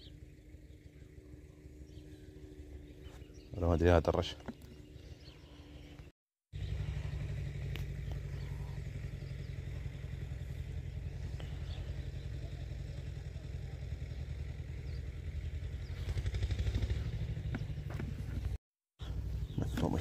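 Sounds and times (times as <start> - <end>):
fluttering deep rumble: 0.0 - 20.0.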